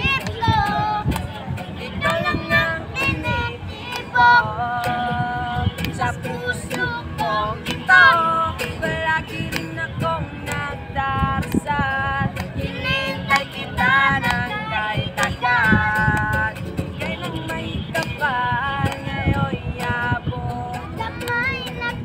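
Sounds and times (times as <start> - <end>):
child singing: 0.0 - 1.2, 1.8 - 11.5, 12.6 - 22.0
strummed accompaniment strokes: 0.0 - 22.0.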